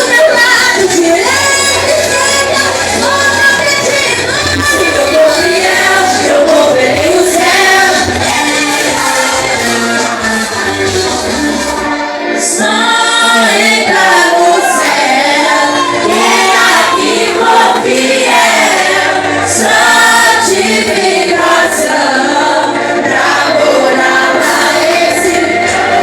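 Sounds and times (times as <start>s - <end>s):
group singing praise songs: 0.0s - 26.0s.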